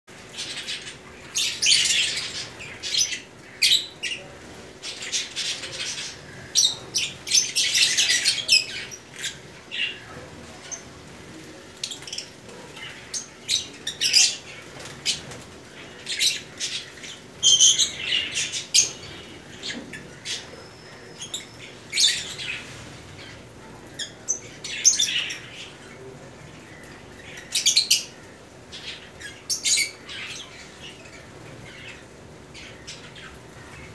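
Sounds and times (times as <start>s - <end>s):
lovebirds chirping and squawking: 0.2s - 11.1s, 11.7s - 33.9s.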